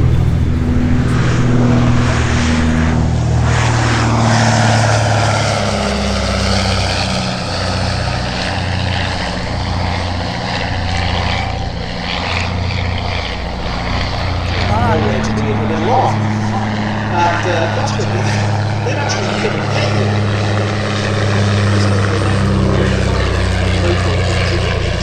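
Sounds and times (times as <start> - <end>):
propeller plane flying past: 0.0 - 25.0.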